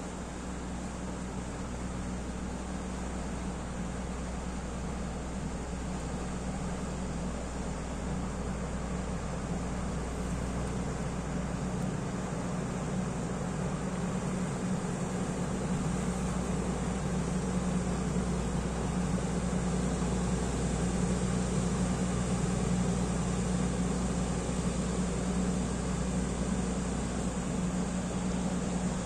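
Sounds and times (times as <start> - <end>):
barge diesel engine humming: 0.0 - 29.0.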